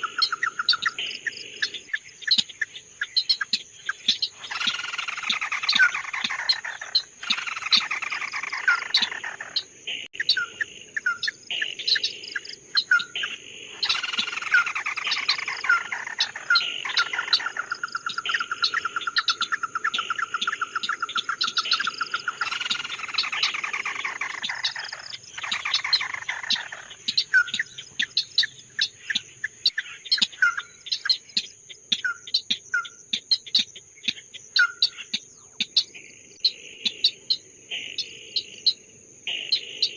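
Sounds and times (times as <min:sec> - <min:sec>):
bird trilling and chirping: 0:00.0 - 0:37.4.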